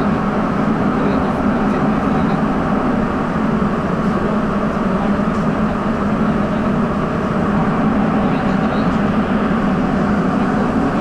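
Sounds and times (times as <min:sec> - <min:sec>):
subway train running in tunnel: 0:00.0 - 0:11.0.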